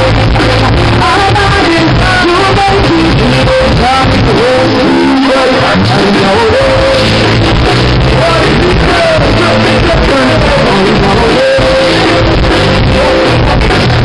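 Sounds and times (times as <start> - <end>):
electric guitar: 0.0 - 14.0
live band playing loudly: 0.0 - 14.0.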